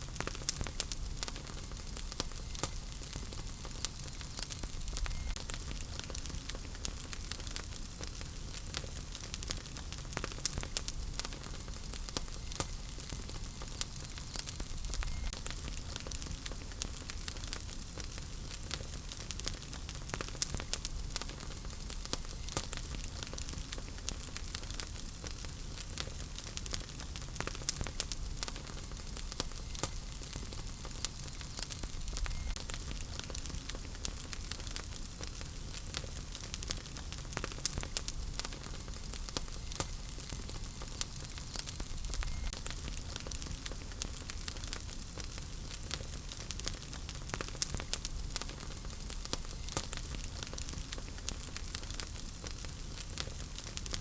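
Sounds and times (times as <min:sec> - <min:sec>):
fire hiss: 0:00.0 - 0:54.0
fire popping: 0:00.0 - 0:54.0
wood fire crackling: 0:00.0 - 0:54.0.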